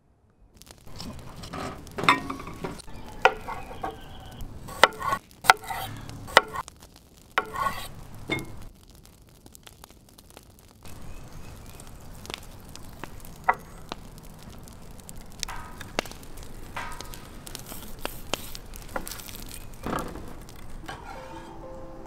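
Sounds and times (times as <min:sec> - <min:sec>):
wood fire crackling: 0:00.4 - 0:22.0.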